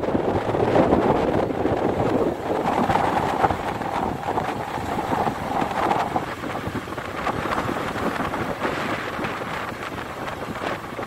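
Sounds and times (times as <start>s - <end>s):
surf breaking on rocky shore: 0.0s - 11.0s
wind buffeting microphone: 0.0s - 11.0s.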